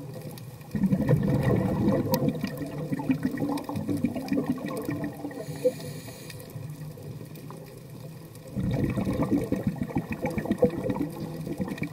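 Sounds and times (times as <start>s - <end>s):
underwater bubbling exhalation: 0.7s - 7.0s, 8.5s - 11.9s.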